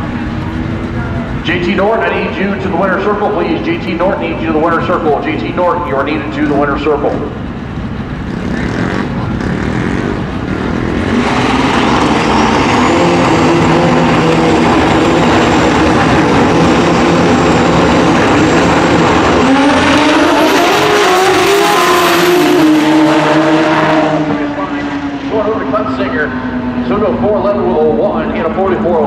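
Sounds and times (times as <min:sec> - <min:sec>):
drag bike engines accelerating: 0:00.0 - 0:29.0.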